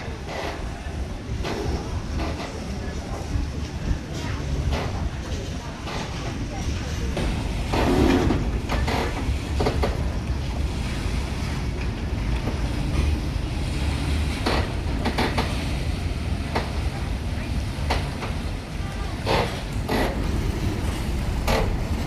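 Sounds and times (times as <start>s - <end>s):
boat engine low rumble: 0.0s - 22.0s
water and wind noise: 0.0s - 22.0s.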